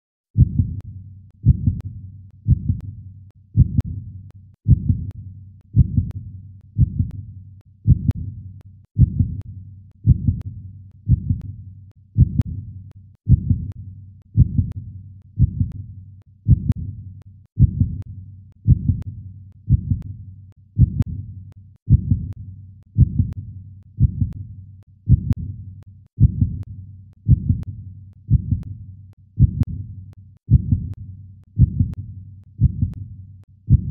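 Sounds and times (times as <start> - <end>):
slow low thumps: 0.4 - 11.6, 12.2 - 20.2, 20.8 - 24.5, 25.1 - 28.8, 29.4 - 31.0, 31.6 - 33.1, 33.7 - 33.9.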